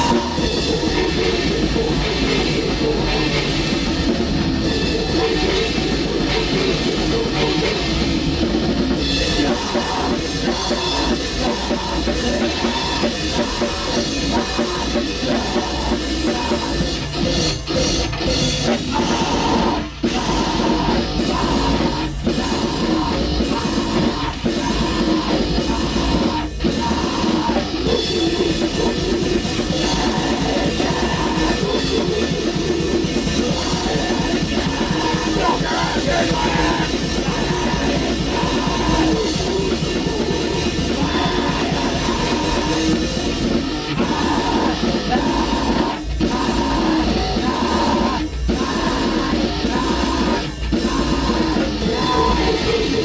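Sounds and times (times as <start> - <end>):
distorted metal band playing: 0.0 - 53.0
drum kit: 0.0 - 53.0.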